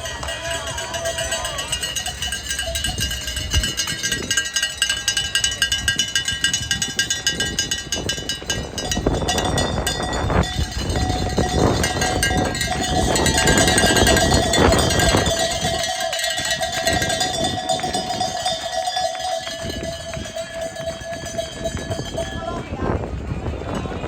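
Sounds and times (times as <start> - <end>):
cowbells jangling: 0.0 - 24.0
crowd noise: 0.0 - 24.0.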